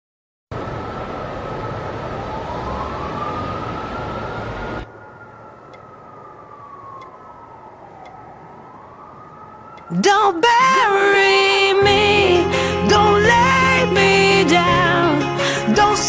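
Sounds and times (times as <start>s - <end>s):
wailing siren: 0.5s - 16.0s.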